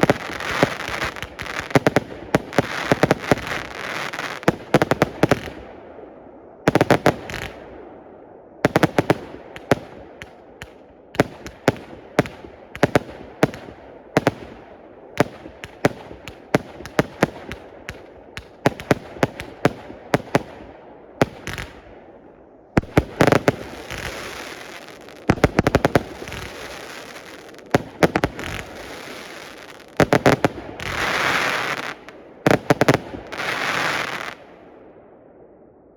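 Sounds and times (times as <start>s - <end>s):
fireworks bangs: 0.0s - 5.7s, 6.7s - 7.7s, 8.6s - 22.1s, 22.8s - 34.6s.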